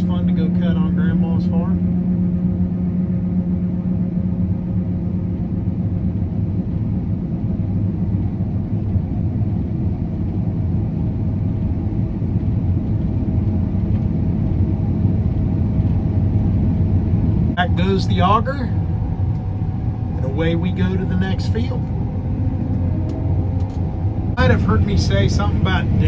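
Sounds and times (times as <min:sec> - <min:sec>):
combine harvester engine drone: 0:00.0 - 0:26.0.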